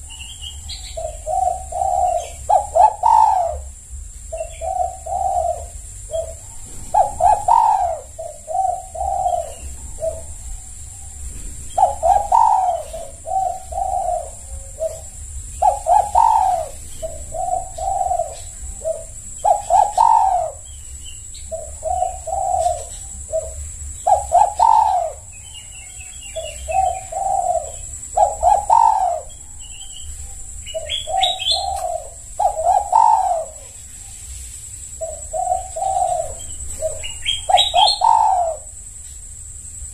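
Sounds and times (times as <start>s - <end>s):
dove cooing: 0.0s - 38.9s
small bird chirps: 0.0s - 39.2s.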